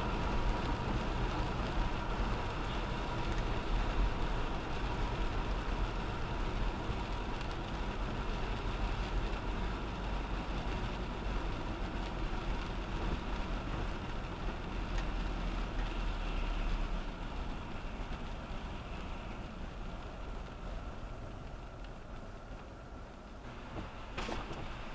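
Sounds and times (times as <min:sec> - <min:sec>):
road and tyre noise: 0:00.0 - 0:24.9.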